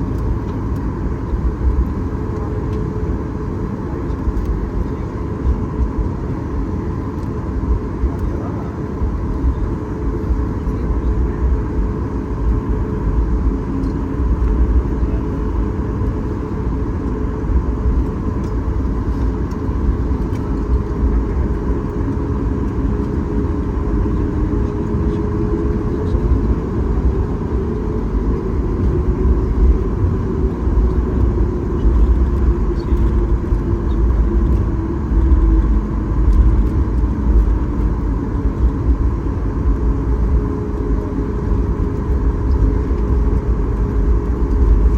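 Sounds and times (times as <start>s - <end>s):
engine hum: 0.0s - 44.9s
jet engine low rumble: 0.0s - 44.9s.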